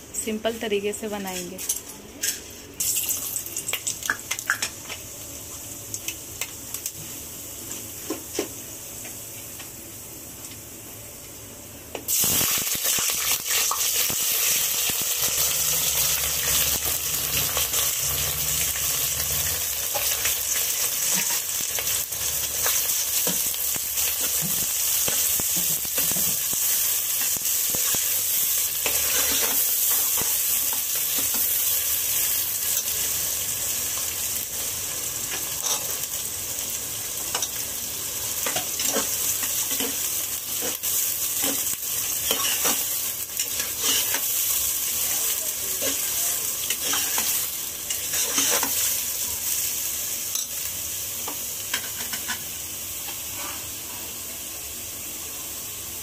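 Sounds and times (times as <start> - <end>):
onion frying in hot oil: 2.8 - 56.0.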